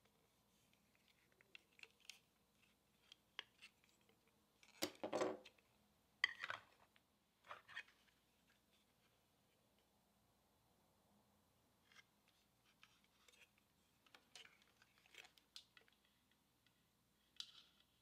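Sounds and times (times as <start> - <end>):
cord rustling: 0.0 - 9.9, 11.8 - 18.0.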